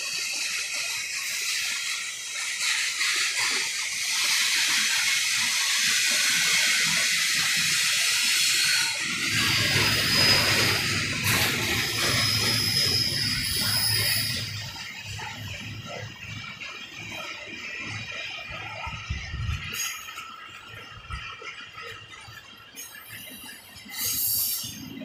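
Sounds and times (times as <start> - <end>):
freight train rolling past: 0.0 - 25.0
steel wheels hissing on rail: 0.0 - 25.0.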